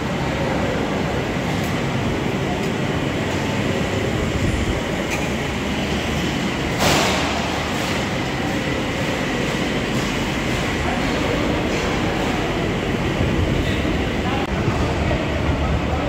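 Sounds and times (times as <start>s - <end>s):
dining hall din: 0.0s - 16.0s.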